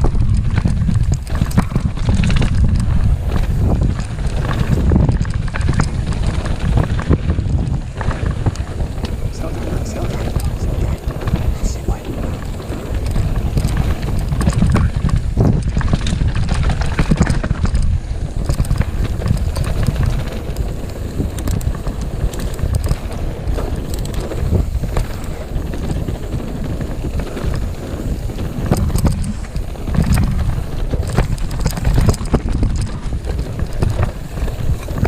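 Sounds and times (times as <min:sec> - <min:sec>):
bike rattling and knocking: 0:00.0 - 0:35.0
tyres rumbling on dirt and stones: 0:00.0 - 0:35.0
wind buffeting microphone: 0:00.0 - 0:35.0.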